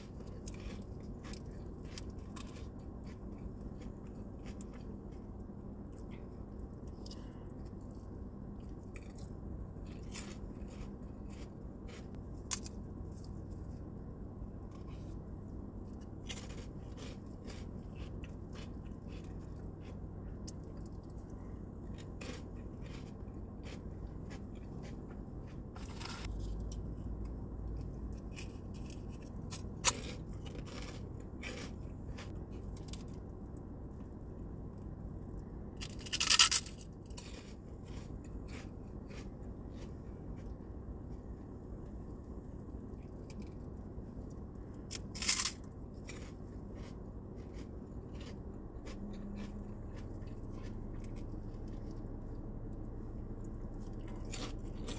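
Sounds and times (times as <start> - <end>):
crunching food: 0.0 - 54.9
soft chewing: 0.0 - 54.9.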